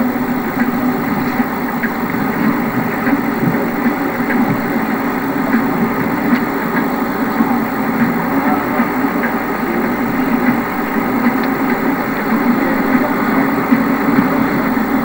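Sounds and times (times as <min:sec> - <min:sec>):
faint ticks: 0:00.0 - 0:15.0
steam engine rumbling: 0:00.0 - 0:15.0.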